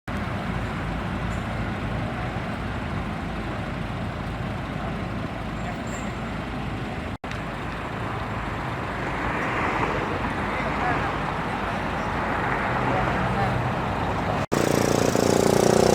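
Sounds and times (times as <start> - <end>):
road traffic passing: 0.1 - 15.9.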